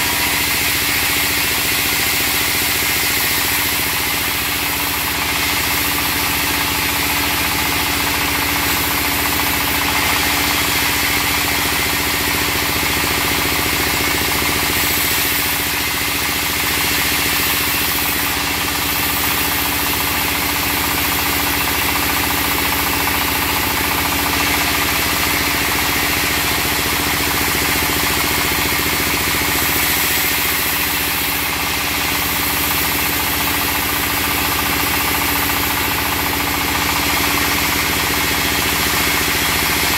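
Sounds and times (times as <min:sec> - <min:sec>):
band saw sawing log: 0:00.0 - 0:39.9
stationary engine running: 0:00.0 - 0:39.9.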